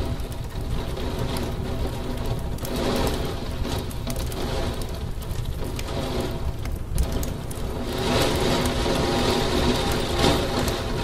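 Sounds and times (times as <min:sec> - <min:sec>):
heavy rain on window glass: 0:00.0 - 0:11.0.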